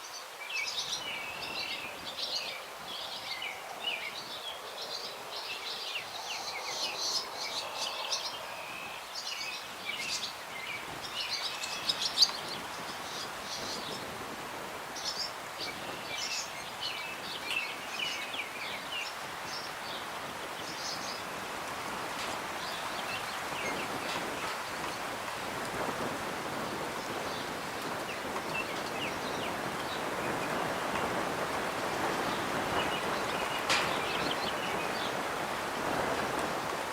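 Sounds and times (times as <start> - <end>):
breeze rustling branches: 0.0 - 36.9
songbirds chirping: 0.0 - 36.9.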